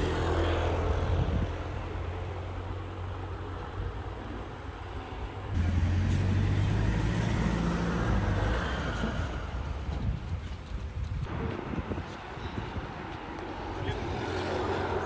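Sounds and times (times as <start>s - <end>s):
road traffic noise: 0.0s - 15.0s
vehicle engine hum: 0.0s - 15.0s.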